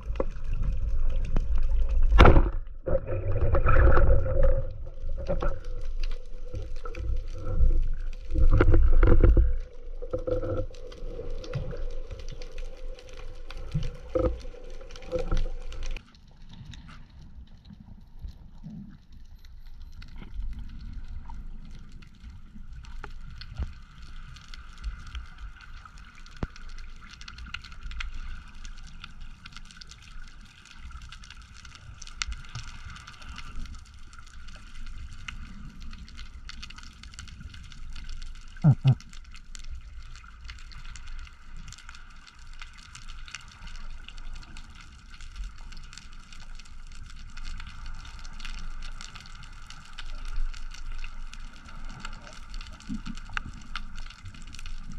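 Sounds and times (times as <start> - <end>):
low underwater rumble: 0.0 - 54.9.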